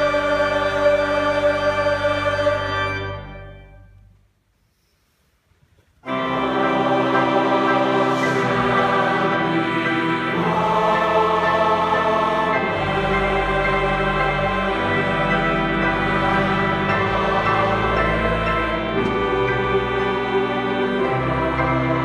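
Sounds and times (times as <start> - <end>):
mixed choir singing chords: 0.0 - 3.5, 6.0 - 22.0.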